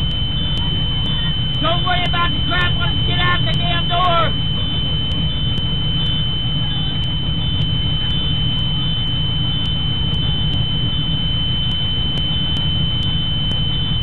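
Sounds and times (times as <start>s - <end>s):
bus engine rumble: 0.0s - 11.8s
faint repeating beep: 0.0s - 14.0s
high-pitched alarm tone: 0.0s - 14.0s.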